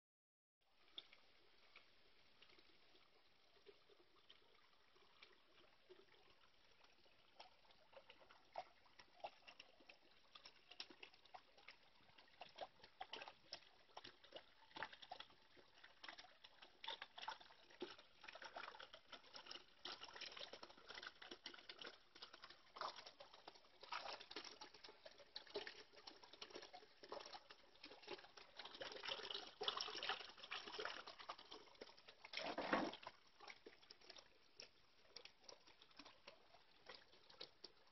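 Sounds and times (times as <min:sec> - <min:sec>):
water trickling into pond: 0:00.6 - 0:37.9.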